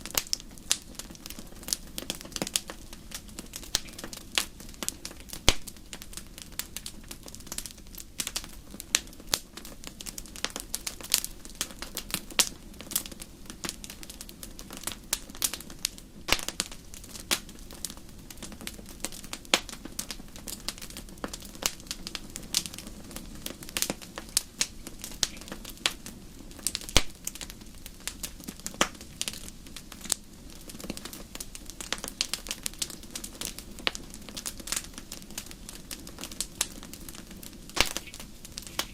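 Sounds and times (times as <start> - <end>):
bonfire pops and snaps: 0.0 - 38.9
low hiss of burning: 0.0 - 38.9.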